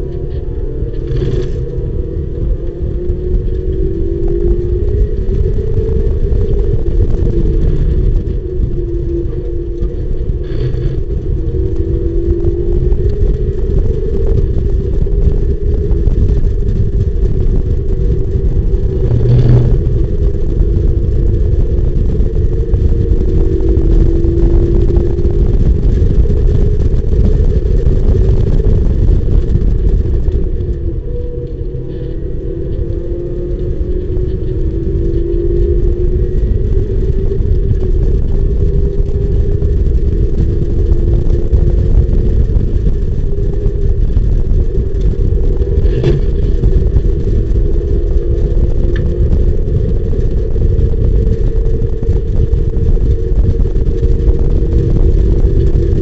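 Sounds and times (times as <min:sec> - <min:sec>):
race car engine accelerating: 0:00.0 - 0:50.2
heavy low rumble: 0:00.0 - 0:56.0.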